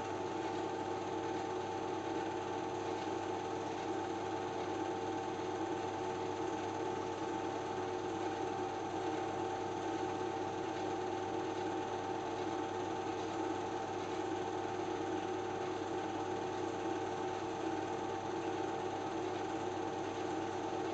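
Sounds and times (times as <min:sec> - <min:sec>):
film projector whirring: 0:00.0 - 0:20.9.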